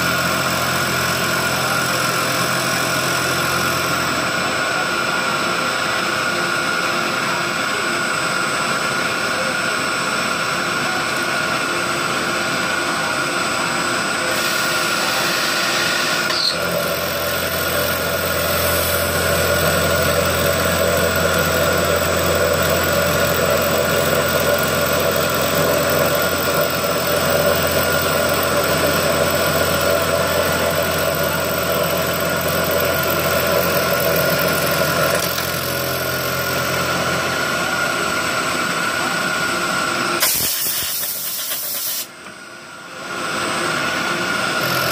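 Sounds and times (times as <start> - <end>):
milling machine whine: 0.0 - 44.9.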